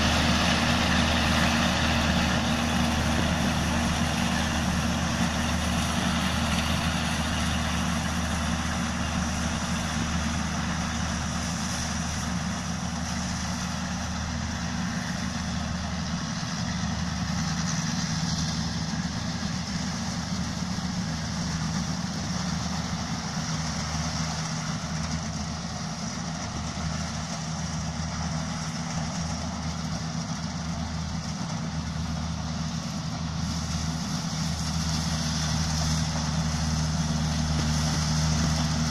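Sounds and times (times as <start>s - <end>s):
clatter of threshing machinery: 0.0s - 38.9s
combine harvester engine hum: 0.0s - 38.9s.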